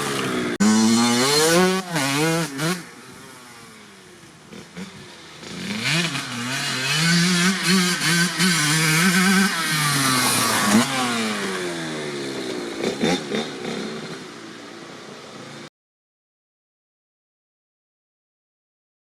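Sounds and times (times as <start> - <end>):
dirt bike revving: 0.0 - 15.7.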